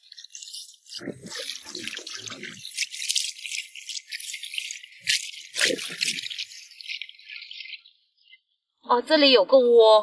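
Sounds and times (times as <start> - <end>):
water splashing and sloshing: 0.0 - 8.6.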